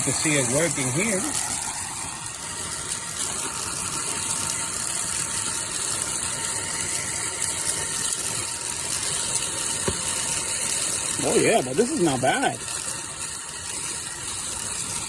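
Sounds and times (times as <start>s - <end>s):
grit rattling through nozzle: 0.0s - 15.0s
handheld vacuum motor whine: 0.0s - 15.0s.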